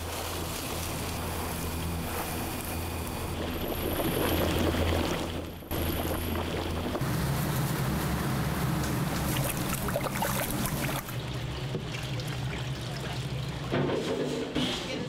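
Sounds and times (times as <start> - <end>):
pots boiling on gas burners: 0.0 - 15.0.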